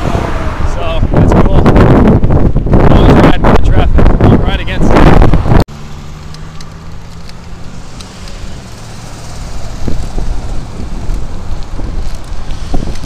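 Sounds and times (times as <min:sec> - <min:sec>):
wind buffeting microphone: 0:00.0 - 0:05.7, 0:06.3 - 0:13.0
motor vehicle hum: 0:00.0 - 0:13.0.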